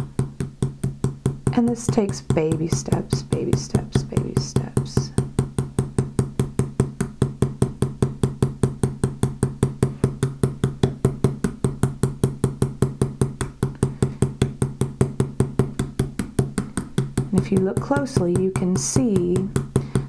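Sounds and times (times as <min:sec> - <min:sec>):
riveting hammer tapping rivet: 0:00.0 - 0:20.0.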